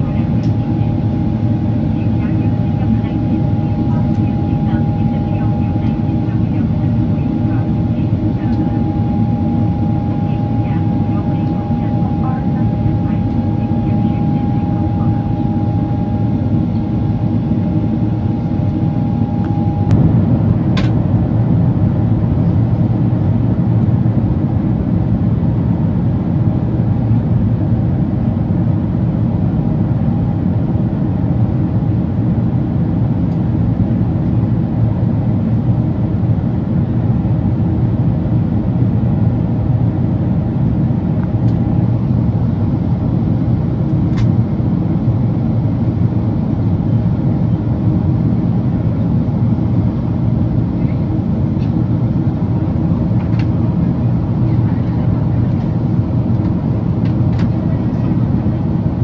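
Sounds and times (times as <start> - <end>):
airplane cabin engine rush: 0.0 - 59.0.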